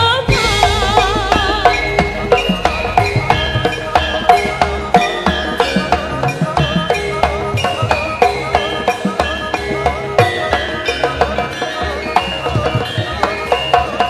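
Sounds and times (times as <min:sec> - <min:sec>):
drums: 0:00.0 - 0:14.0
metallophones and gongs struck: 0:00.2 - 0:14.0.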